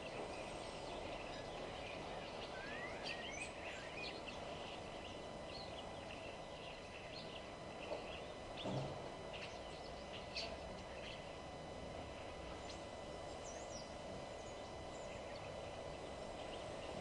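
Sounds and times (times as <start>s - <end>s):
birds chirping and calling: 0.0s - 11.4s, 12.1s - 17.0s
steady background hiss: 0.0s - 17.0s.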